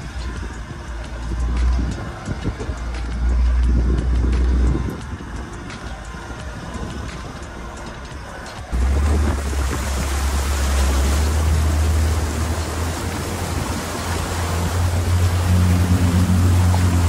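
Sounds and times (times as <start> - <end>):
tyres splashing through water: 0.0 - 17.0
vehicle drone: 0.0 - 17.0.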